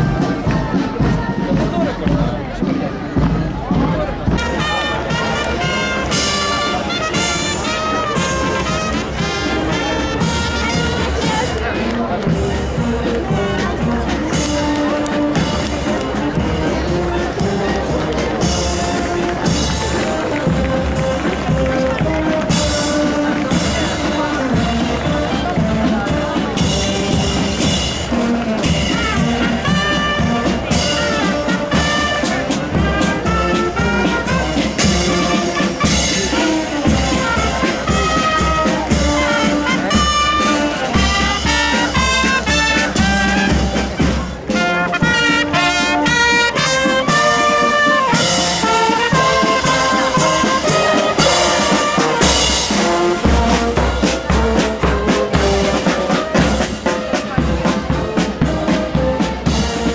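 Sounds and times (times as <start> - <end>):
bass and snare drums: 0.0 - 59.9
trumpets and brass playing march: 0.0 - 59.9.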